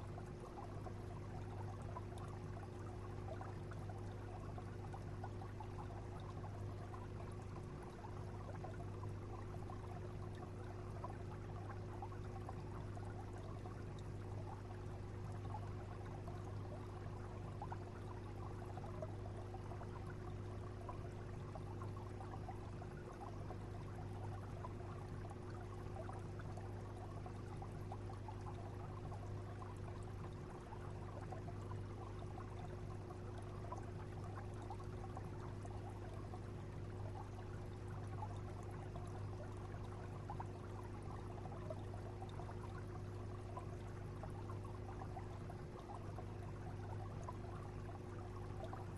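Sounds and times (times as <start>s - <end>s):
low pump hum: 0.0s - 48.9s
water trickling and bubbling: 0.0s - 48.9s.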